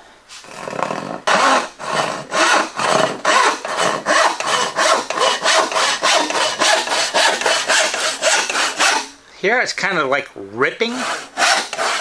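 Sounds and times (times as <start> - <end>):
hand saw rasping through wood: 0.3 - 9.1, 10.8 - 12.0.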